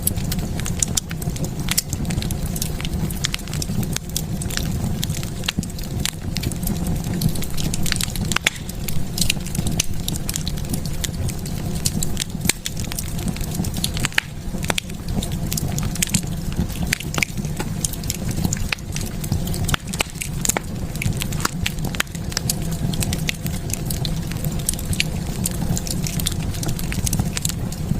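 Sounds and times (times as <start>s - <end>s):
fire flames rumbling: 0.0s - 27.9s
wood fire crackling and popping: 0.0s - 27.9s.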